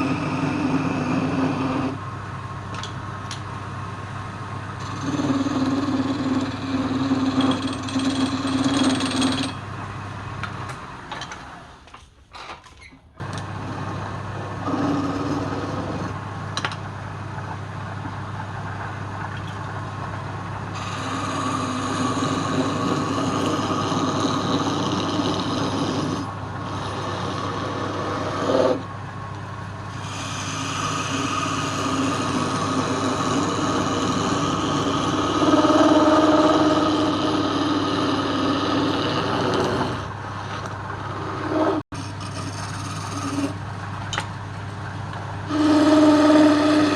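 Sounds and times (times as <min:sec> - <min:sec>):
lathe motor humming: 0:00.0 - 0:11.6, 0:13.2 - 0:46.9
tool cutting spinning workpiece: 0:00.0 - 0:11.6, 0:13.2 - 0:46.9.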